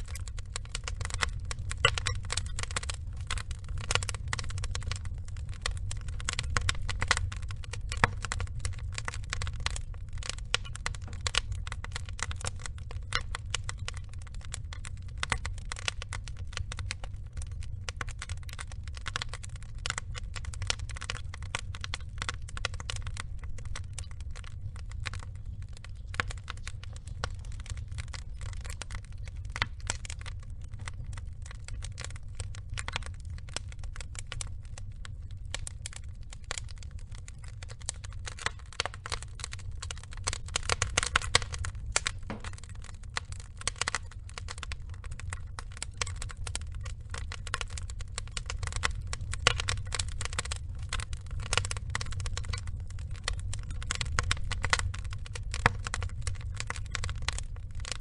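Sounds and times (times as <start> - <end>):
fire low rumble: 0.0 - 58.0
wood fire crackling: 0.0 - 58.0.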